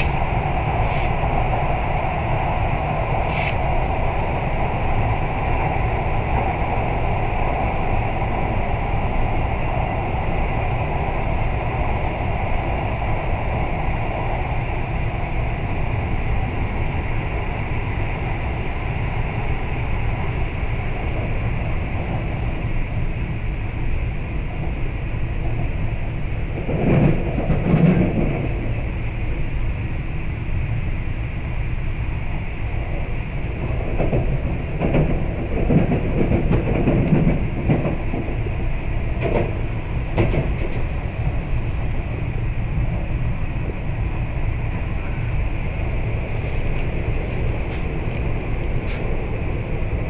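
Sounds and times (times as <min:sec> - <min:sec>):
train carriage running noise: 0:00.0 - 0:50.0
train rumble: 0:00.0 - 0:50.0.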